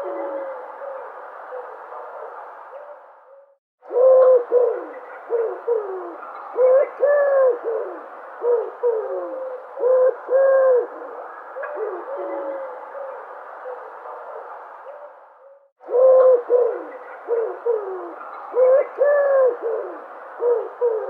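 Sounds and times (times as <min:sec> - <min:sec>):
dove cooing: 0:00.0 - 0:21.0
steady background hiss: 0:00.0 - 0:21.0.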